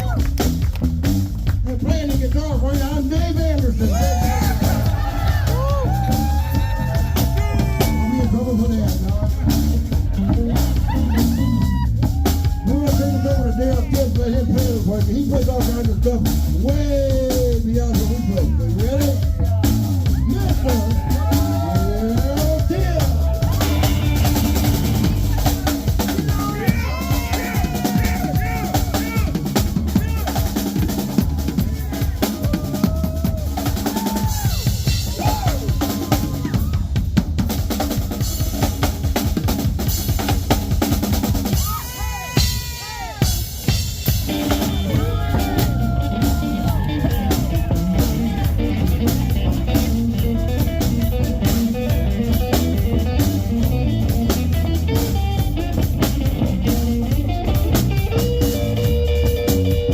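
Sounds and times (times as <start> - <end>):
drum kit solo: 0.0 - 59.9.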